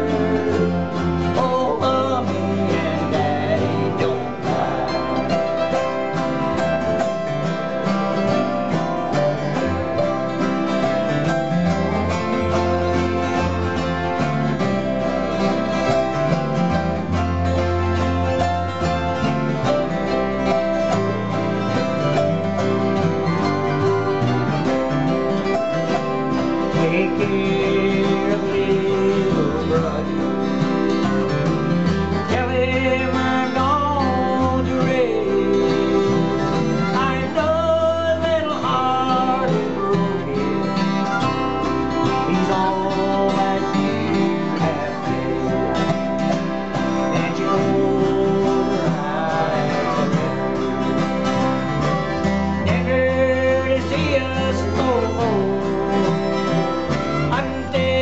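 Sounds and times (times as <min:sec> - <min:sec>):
acoustic bass guitar: 0:00.0 - 0:58.0
autoharp: 0:00.0 - 0:58.0
harmonica: 0:00.0 - 0:58.0
mandolin: 0:00.0 - 0:58.0
strummed acoustic guitars: 0:00.0 - 0:58.0.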